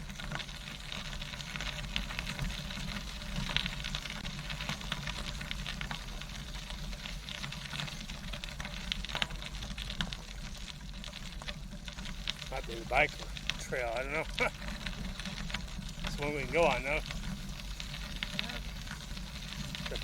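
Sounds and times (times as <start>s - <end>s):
bicycle tyres on gravel: 0.0s - 20.0s.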